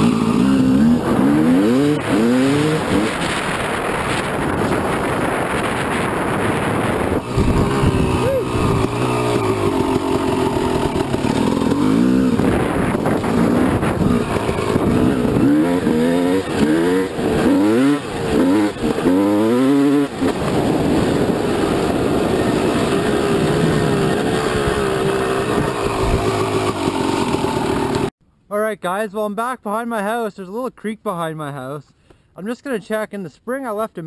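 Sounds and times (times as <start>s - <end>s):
two-stroke bike engine revving: 0.0s - 28.1s.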